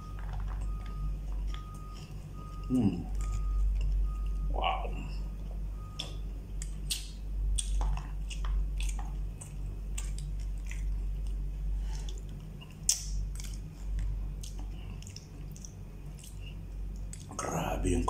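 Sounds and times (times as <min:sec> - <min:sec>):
person chewing: 0:00.0 - 0:17.4
steady low hum: 0:00.0 - 0:18.0.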